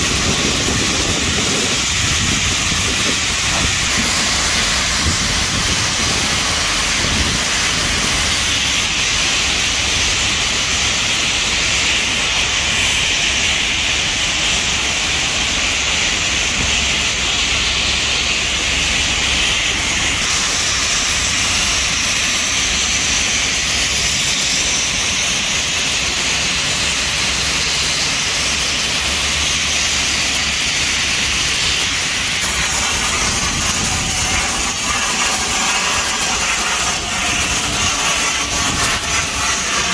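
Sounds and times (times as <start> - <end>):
high-pressure spray hissing: 0.0 - 39.9.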